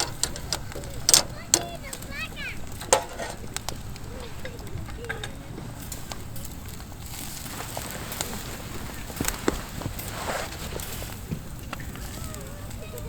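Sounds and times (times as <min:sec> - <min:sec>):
campfire crackling: 0:00.0 - 0:13.0
distant voices: 0:00.0 - 0:13.0
fire hissing: 0:00.0 - 0:13.0.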